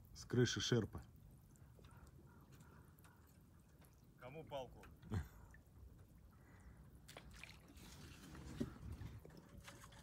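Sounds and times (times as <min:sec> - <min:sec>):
water sloshing and lapping: 0:00.0 - 0:10.0.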